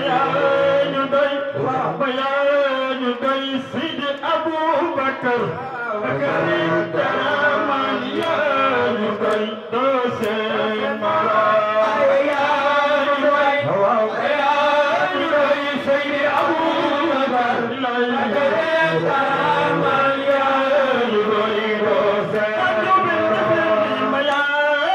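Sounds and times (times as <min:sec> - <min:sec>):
men chanting a devotional song: 0:00.0 - 0:24.9.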